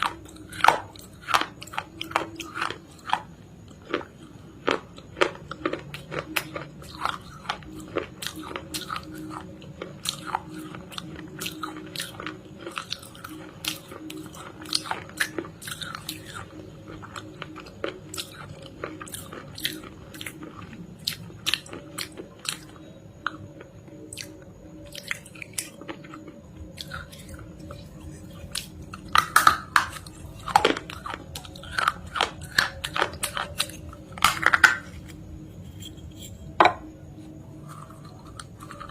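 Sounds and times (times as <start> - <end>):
crunching while chewing: 0.0 - 38.9.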